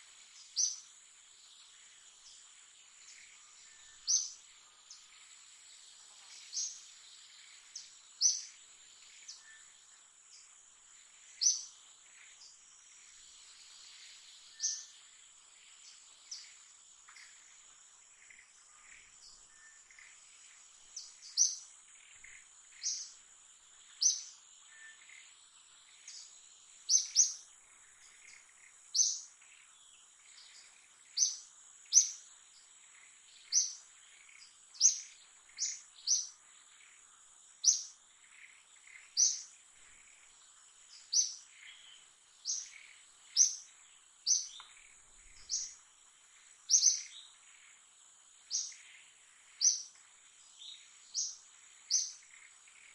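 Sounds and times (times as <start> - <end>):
high insect whine: 0.0 - 52.9.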